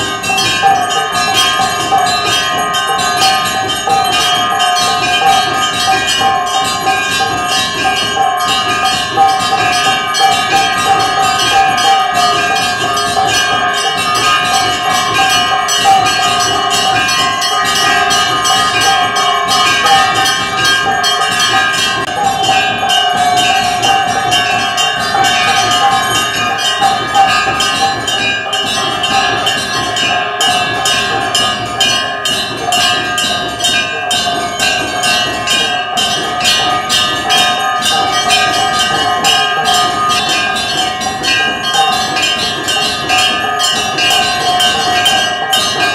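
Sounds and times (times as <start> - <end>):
bells ringing: 0.0 - 45.9.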